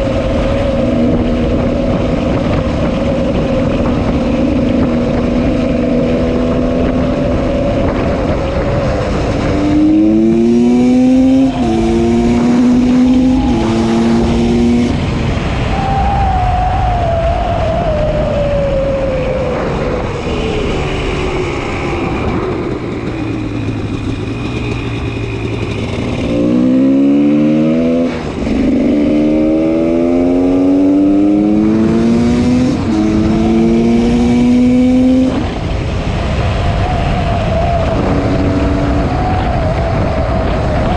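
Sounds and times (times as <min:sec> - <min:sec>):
two-stroke engine accelerating: 0:00.0 - 0:15.6, 0:19.6 - 0:37.1, 0:37.8 - 0:40.9.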